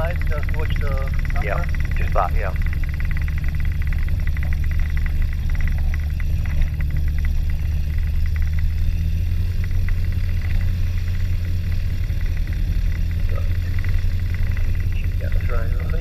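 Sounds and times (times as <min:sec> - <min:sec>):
piston engine idling: 0:00.0 - 0:16.0.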